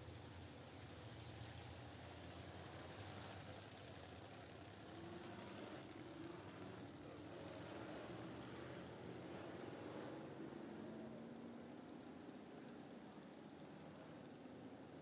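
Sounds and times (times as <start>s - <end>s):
faint race car engines humming: 0.0s - 15.0s.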